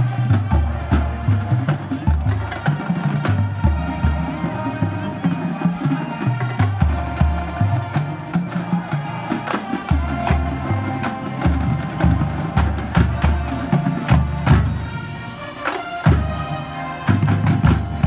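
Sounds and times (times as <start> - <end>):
marching bass drums: 0.0 - 15.0, 16.0 - 18.0
brass and wind chords: 0.0 - 18.0.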